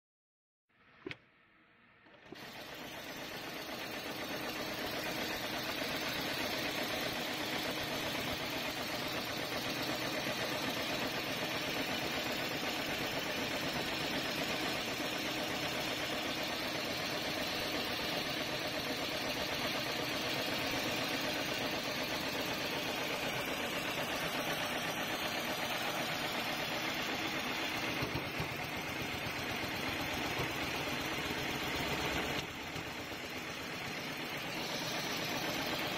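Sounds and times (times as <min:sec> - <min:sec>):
sewing machine stitching: 0:02.0 - 0:35.9.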